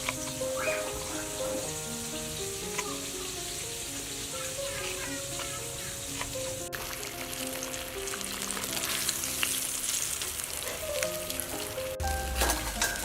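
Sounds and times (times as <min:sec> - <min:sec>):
food sizzling in hot oil: 0:00.0 - 0:13.0
oil spattering crackles: 0:00.0 - 0:13.0
soft background music: 0:00.0 - 0:13.0.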